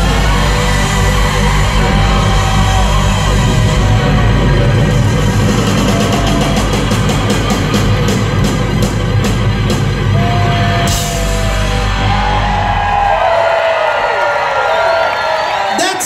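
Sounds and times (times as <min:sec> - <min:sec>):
live rock band playing: 0:00.0 - 0:13.0
crowd cheering and whistling: 0:00.0 - 0:16.0.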